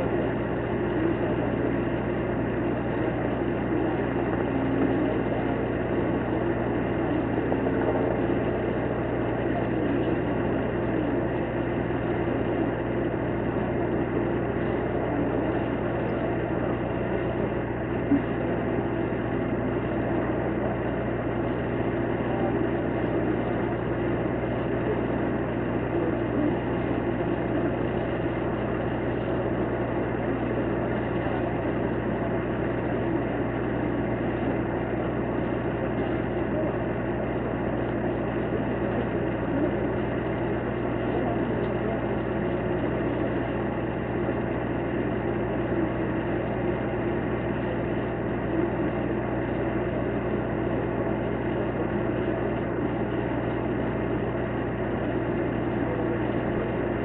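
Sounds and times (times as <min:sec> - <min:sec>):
low hum: 0:00.0 - 0:57.0
mechanical drone: 0:00.0 - 0:57.0.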